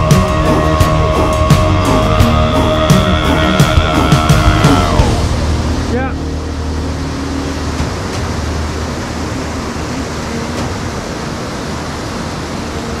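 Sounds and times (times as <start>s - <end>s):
whitewater roaring over rocks: 0.0s - 13.0s.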